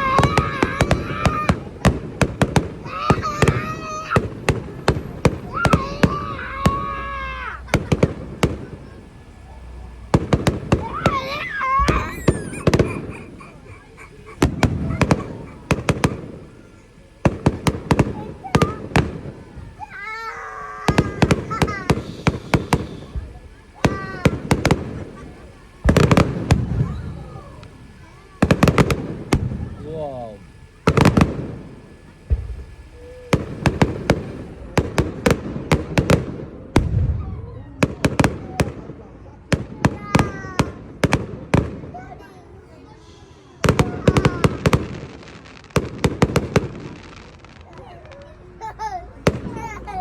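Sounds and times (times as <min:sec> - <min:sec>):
fireworks bangs with echo: 0:00.0 - 0:48.6, 0:49.2 - 0:50.0.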